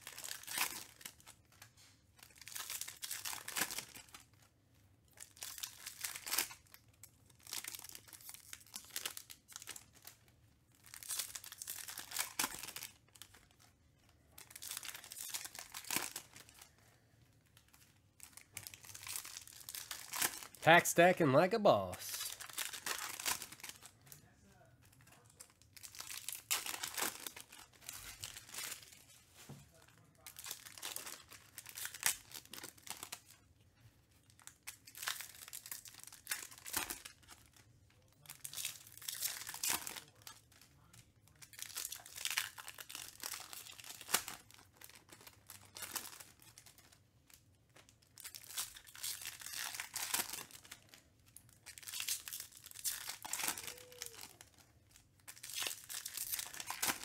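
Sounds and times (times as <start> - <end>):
foil wrappers crinkling and tearing: 0.0 - 4.5, 5.1 - 20.6, 22.1 - 24.2, 24.9 - 33.4, 34.2 - 57.0.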